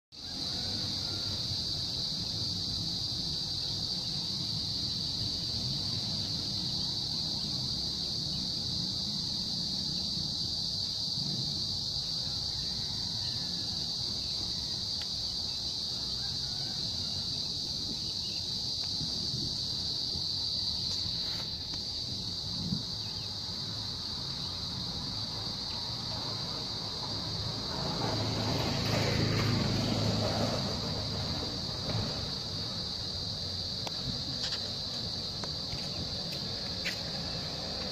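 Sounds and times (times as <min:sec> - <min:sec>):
insects chirping: 0:00.1 - 0:37.9.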